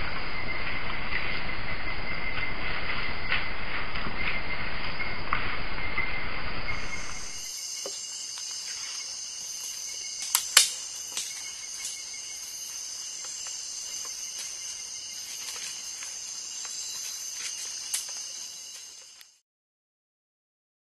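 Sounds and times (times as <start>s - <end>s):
crickets chirping: 0.0s - 19.4s.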